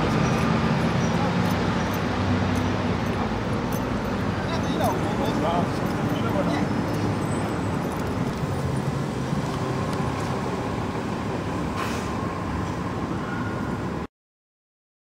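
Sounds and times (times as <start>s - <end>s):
street noise: 0.0s - 14.1s
vehicle engines rumbling: 0.0s - 14.1s.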